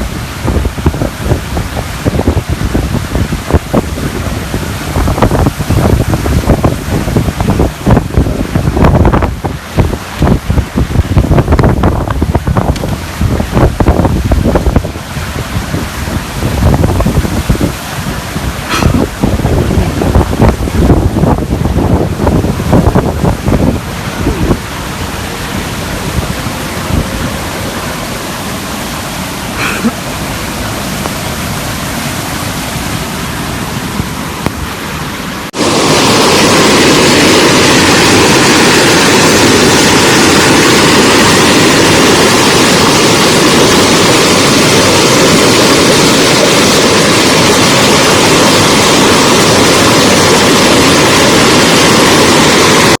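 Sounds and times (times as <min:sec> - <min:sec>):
wind buffeting microphone: 0:00.0 - 0:29.4, 0:35.5 - 0:53.0
rain rushing: 0:00.0 - 0:53.0
rushing water: 0:00.0 - 0:53.0.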